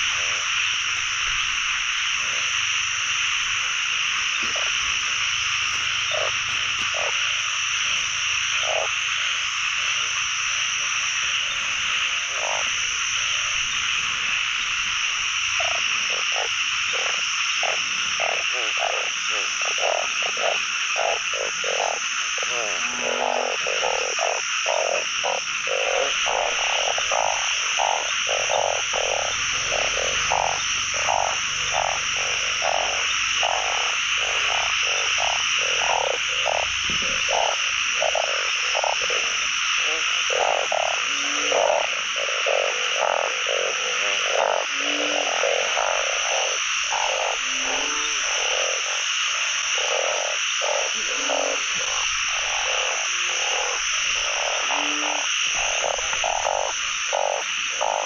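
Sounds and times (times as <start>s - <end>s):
high-pitched frog chorus: 0.0s - 58.0s
low frog croaks: 0.0s - 58.0s.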